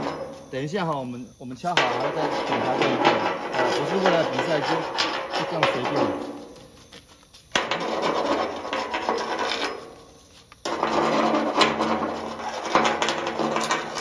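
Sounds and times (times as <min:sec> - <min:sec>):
metal scraping on metal: 0:00.0 - 0:06.7, 0:07.5 - 0:14.0.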